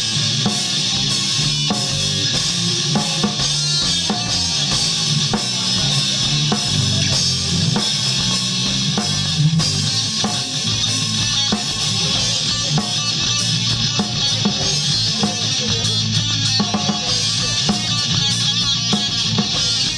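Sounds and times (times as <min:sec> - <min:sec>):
bass guitar: 0:00.0 - 0:19.9
drum kit steady beat: 0:00.0 - 0:19.9
guitars: 0:00.0 - 0:19.9.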